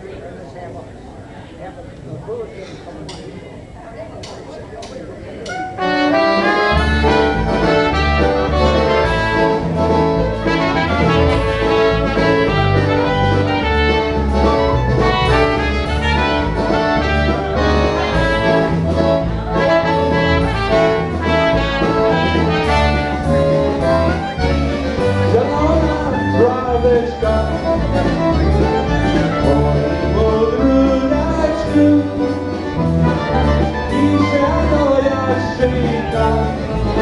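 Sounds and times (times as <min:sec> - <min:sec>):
accordion: 0:05.4 - 0:37.0
polka band playing: 0:05.4 - 0:37.0
oom-pah bass line: 0:05.5 - 0:37.0.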